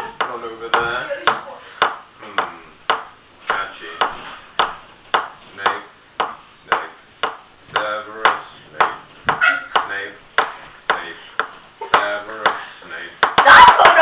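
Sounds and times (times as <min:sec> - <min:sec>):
voices singing rhythmically: 0:00.0 - 0:14.0.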